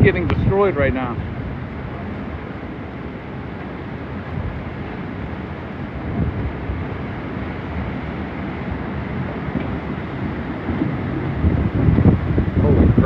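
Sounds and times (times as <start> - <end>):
strong wind blowing across microphone: 0.0 - 13.0.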